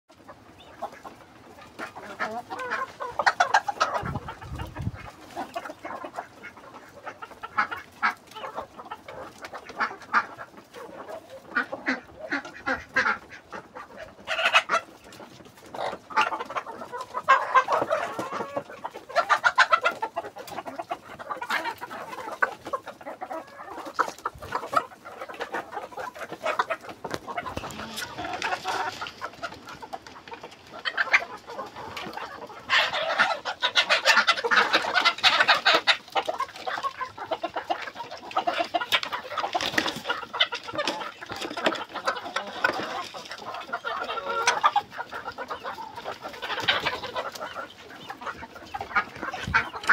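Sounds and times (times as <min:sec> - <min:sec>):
chickens clucking and squawking: 0:00.1 - 0:49.9.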